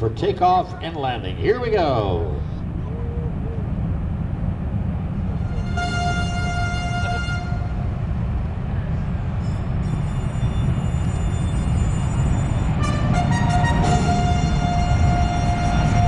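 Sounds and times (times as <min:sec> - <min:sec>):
jet engines rumbling and whining: 0:00.0 - 0:16.0.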